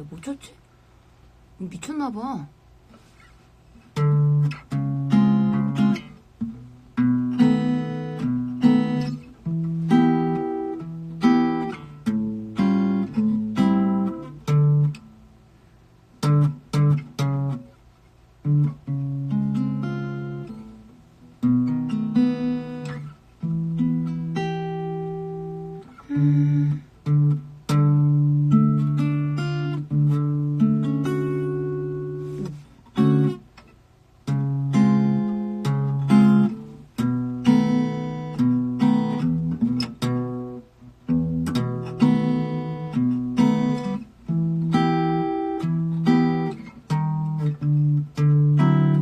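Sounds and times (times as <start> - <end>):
acoustic guitar chords: 1.4 - 49.0.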